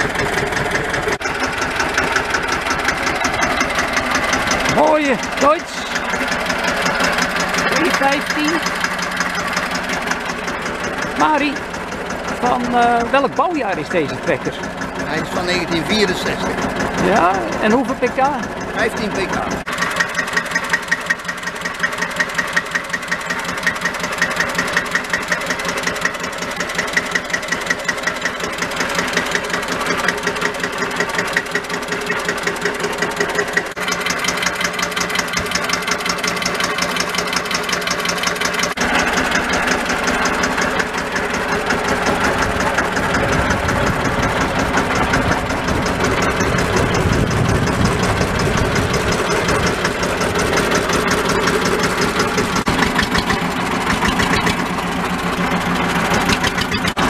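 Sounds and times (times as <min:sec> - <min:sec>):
diesel engine knocking at idle: 0:00.0 - 0:57.0.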